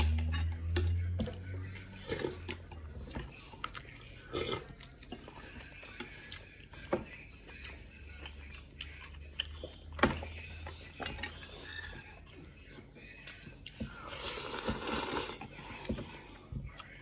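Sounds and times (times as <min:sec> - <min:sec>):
chewing and biting: 0:00.0 - 0:17.0.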